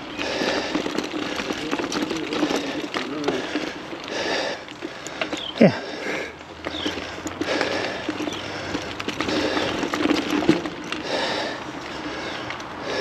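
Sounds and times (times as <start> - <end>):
bike clicks and rattles: 0.0 - 13.0
bike tyres on dirt: 0.0 - 13.0.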